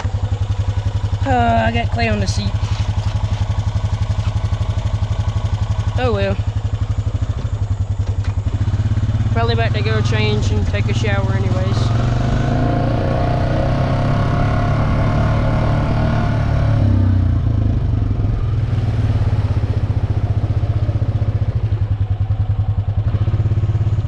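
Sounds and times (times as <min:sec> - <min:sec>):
atv engine pulsing: 0:00.0 - 0:24.0.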